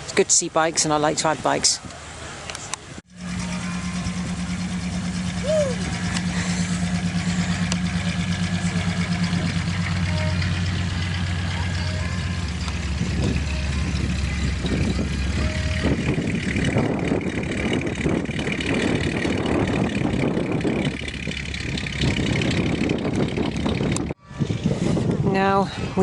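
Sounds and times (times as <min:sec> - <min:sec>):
engine idling: 0:03.1 - 0:24.2
wind buffeting microphone: 0:04.0 - 0:26.0.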